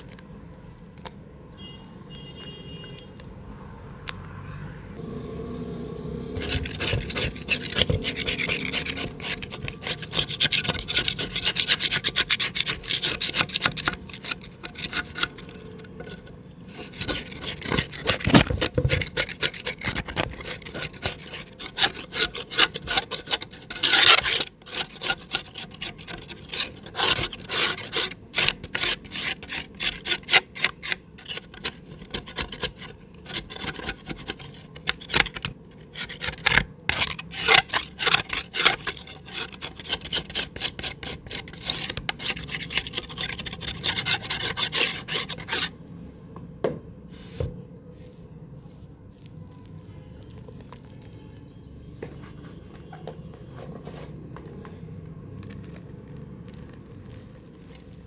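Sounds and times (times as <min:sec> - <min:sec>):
mud crackling in a pot: 0:06.2 - 0:45.8, 0:47.1 - 0:58.0.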